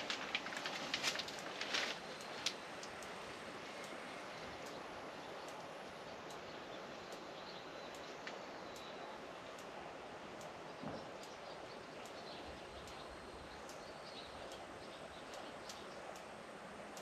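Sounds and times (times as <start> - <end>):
light sharp ticks: 0.0 - 17.0
small birds chirping: 0.0 - 17.0
steady hiss: 0.0 - 17.0.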